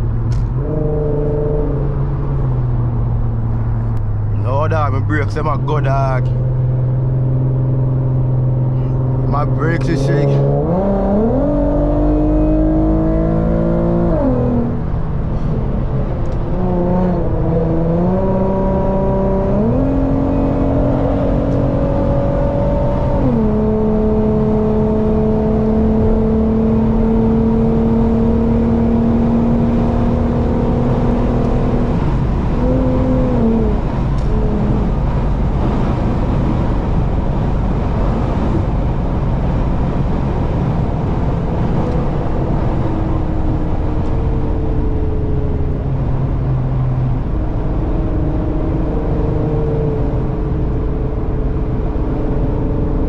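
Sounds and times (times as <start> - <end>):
car engine: 0.0 - 53.0
low road rumble: 0.0 - 53.0.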